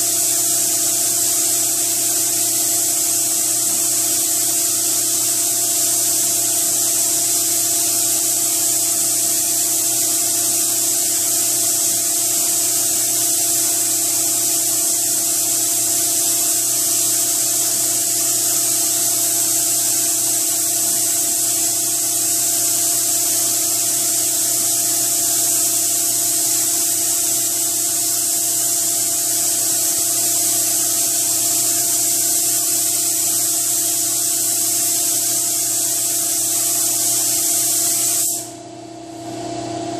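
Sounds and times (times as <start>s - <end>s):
paint spray gun hissing: 0.0s - 38.6s.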